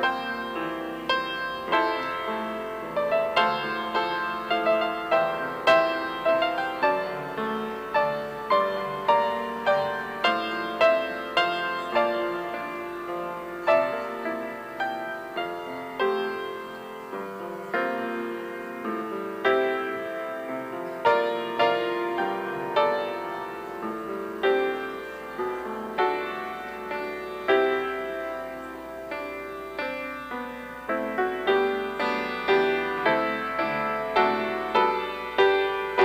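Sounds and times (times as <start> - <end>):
slow solo piano music: 0.0 - 36.0.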